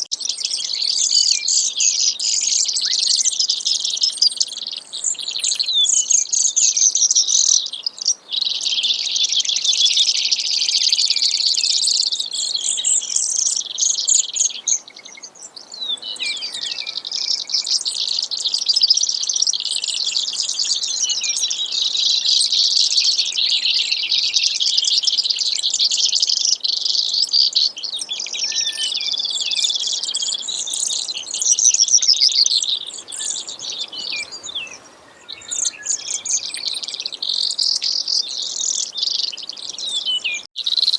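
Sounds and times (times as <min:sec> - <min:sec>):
sparrow singing rapid trills: 0:00.0 - 0:40.9.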